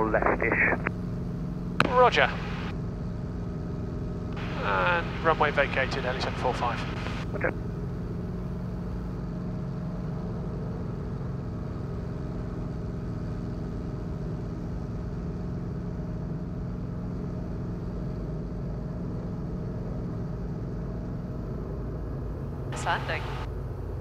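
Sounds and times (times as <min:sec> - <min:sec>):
helicopter engine and rotors droning: 0:00.0 - 0:24.0.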